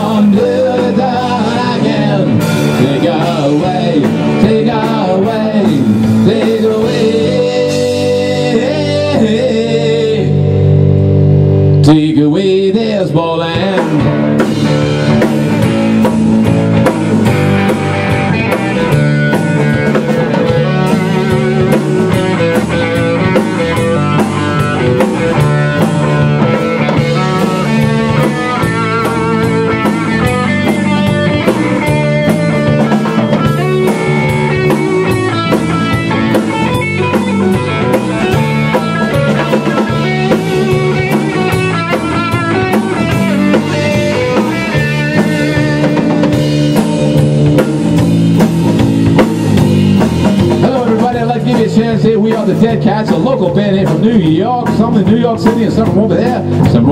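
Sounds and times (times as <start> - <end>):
bass guitar: 0.0 - 56.9
drum kit: 0.0 - 56.9
electric guitar: 0.0 - 56.9.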